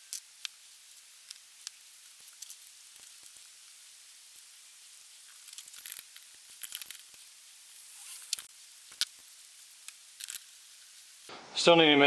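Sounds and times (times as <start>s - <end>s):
small metal parts clicking: 0.0s - 7.3s, 8.0s - 11.0s
faint steady hiss: 0.0s - 12.0s.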